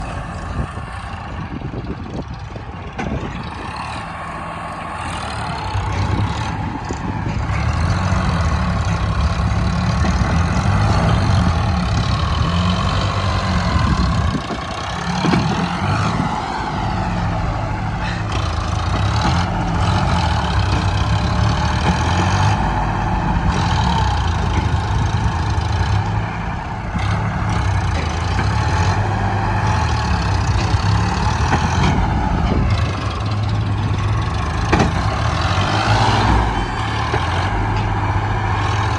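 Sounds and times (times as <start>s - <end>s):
diesel engine working under load: 0.0s - 38.9s.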